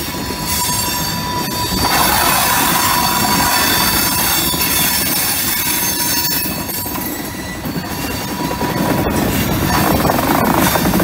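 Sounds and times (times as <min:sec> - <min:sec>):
steel wheels rumbling on rail: 0:00.0 - 0:11.0
high-pitched wheel squeal: 0:00.4 - 0:09.4.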